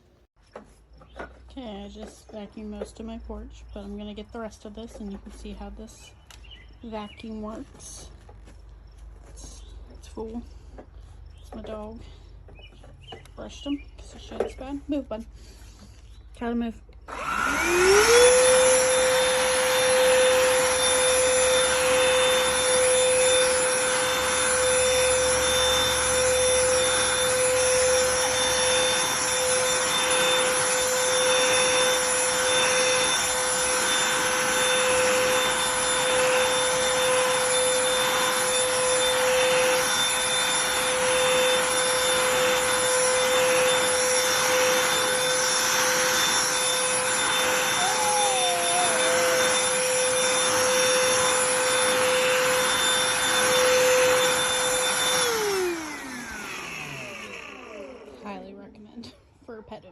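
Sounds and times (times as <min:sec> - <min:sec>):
handheld vacuum whining: 0:00.0 - 0:59.0.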